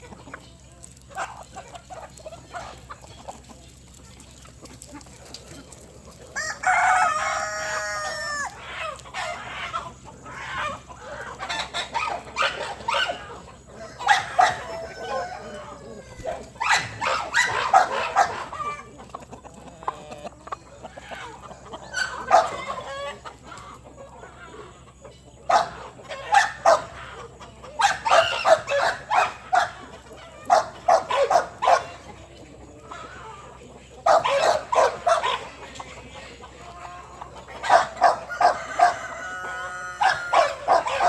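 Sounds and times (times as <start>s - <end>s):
chickens clucking and squawking: 0.0s - 41.0s.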